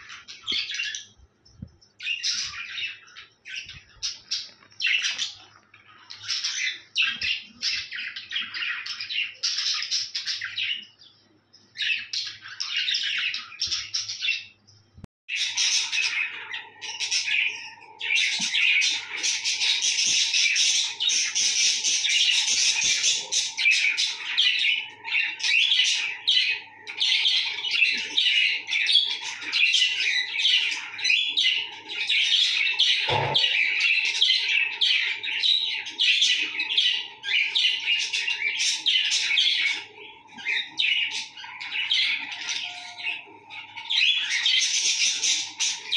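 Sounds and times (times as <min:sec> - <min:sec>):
budgerigars chattering and warbling: 0:00.0 - 0:01.2, 0:01.9 - 0:11.1, 0:11.7 - 0:14.6, 0:15.3 - 0:45.9.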